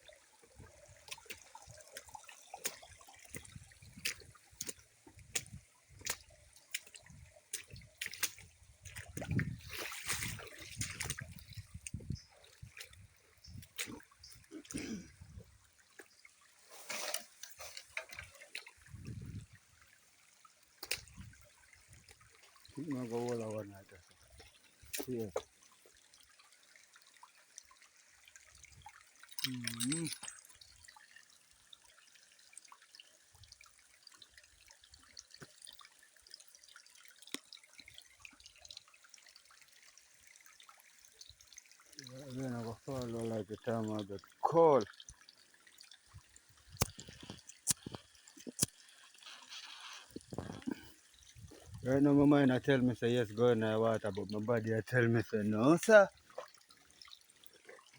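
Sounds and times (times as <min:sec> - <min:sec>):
stream water trickling and splashing: 0:00.0 - 0:57.9.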